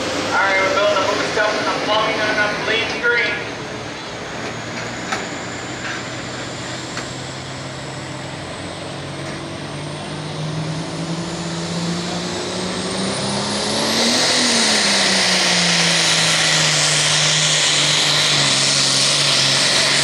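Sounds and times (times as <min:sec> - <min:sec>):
high turbo whine: 0:00.0 - 0:20.0
tractor diesel engine revving: 0:00.0 - 0:20.0.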